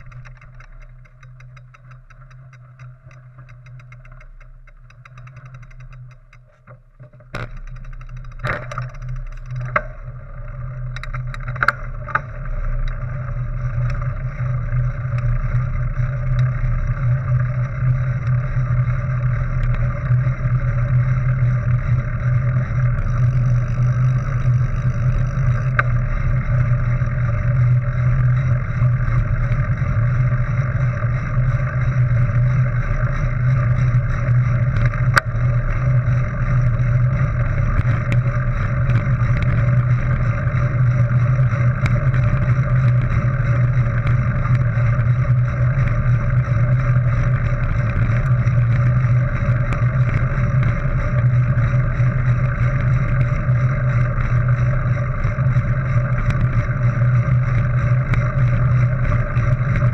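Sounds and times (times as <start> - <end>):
faint ticks: 0.0 - 59.9
bike tyres on dirt: 7.4 - 59.9.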